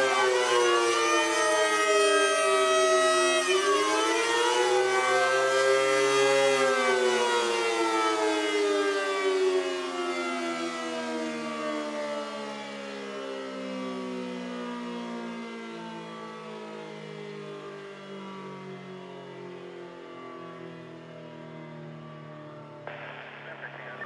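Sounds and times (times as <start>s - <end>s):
electromechanical warning sirens: 0.0s - 22.8s.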